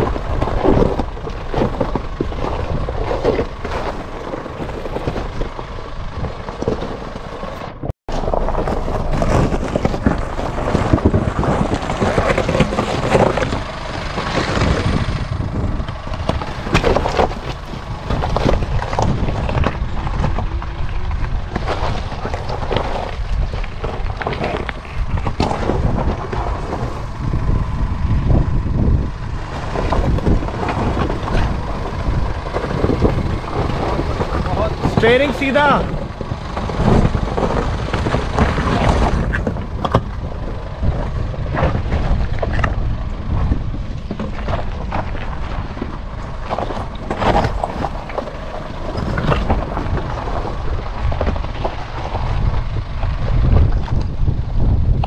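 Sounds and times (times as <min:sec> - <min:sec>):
diesel engine pulling at low speed: 0:00.0 - 0:55.0
low vehicle rumble: 0:00.0 - 0:55.0
rock cracking under wheels: 0:00.0 - 0:55.0
tyres crunching over stones: 0:00.0 - 0:55.0
wind buffeting microphone: 0:00.0 - 0:55.0.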